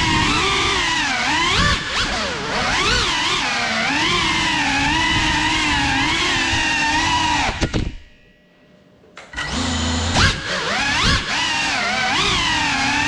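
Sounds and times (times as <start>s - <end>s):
drone motors whining: 0.0s - 8.2s, 9.3s - 13.0s.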